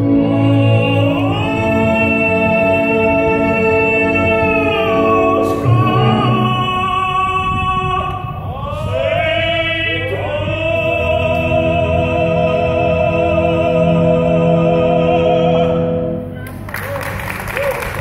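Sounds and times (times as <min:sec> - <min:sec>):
men singing opera in harmony: 0:00.0 - 0:16.2.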